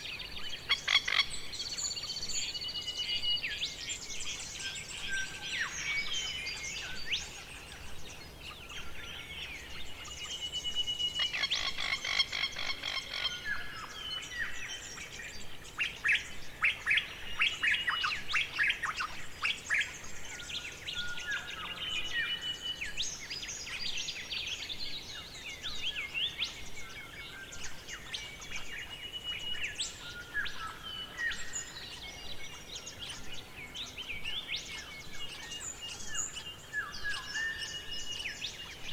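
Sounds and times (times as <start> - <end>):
faint forest background: 0.0 - 38.9
songbirds chirping and singing: 0.0 - 38.9.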